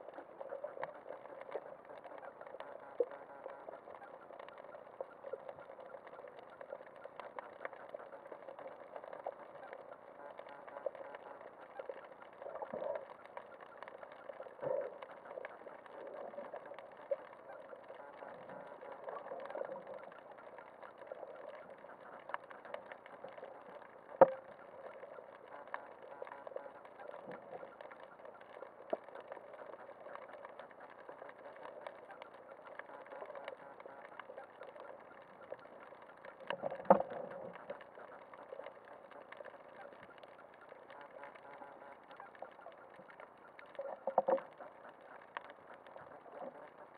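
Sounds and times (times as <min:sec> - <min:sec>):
muffled underwater noise: 0:00.0 - 0:46.9.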